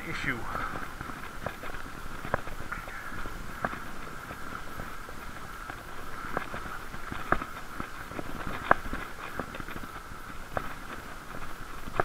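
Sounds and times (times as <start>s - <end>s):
bicycle clicks and rattles: 0.0s - 12.0s
bicycle hum: 0.0s - 12.0s.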